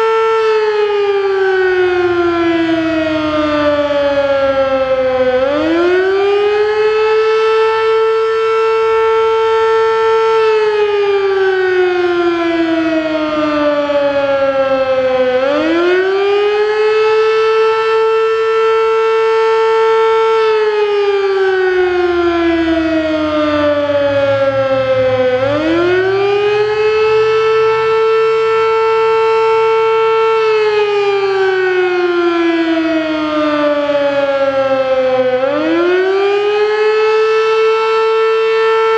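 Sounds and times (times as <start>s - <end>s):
fire siren rising and falling: 0.0s - 38.9s.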